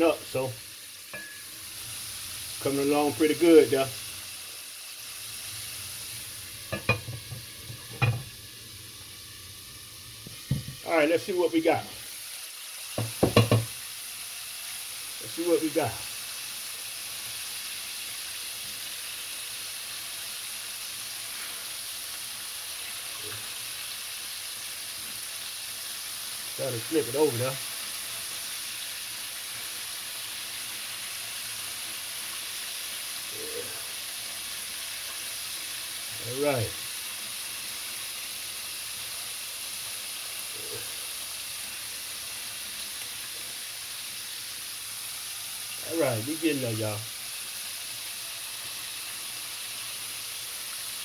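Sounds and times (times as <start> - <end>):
chicken sizzling in hot oil: 0.0 - 51.0.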